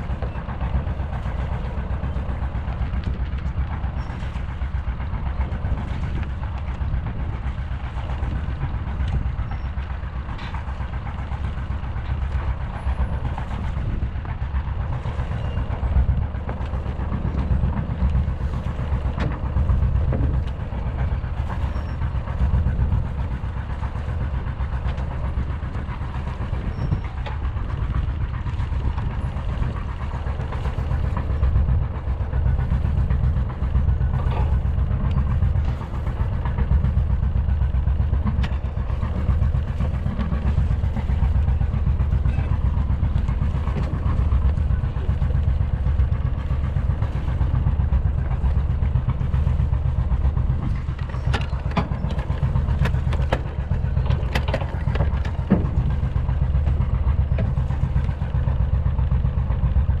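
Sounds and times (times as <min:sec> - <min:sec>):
diesel engine drone: 0:00.0 - 1:00.0.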